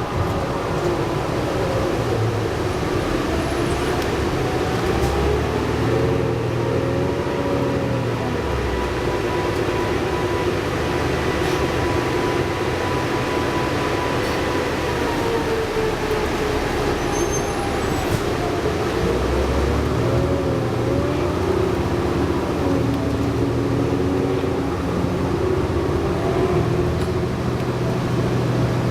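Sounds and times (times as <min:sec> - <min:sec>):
bus road and drivetrain noise: 0:00.0 - 0:28.9
diesel engine: 0:00.0 - 0:28.9.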